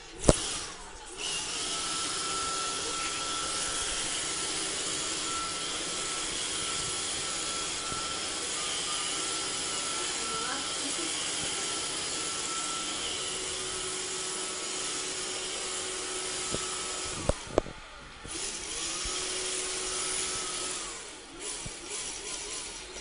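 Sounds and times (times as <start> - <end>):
robot vacuum cleaner whirring: 0.0 - 23.0.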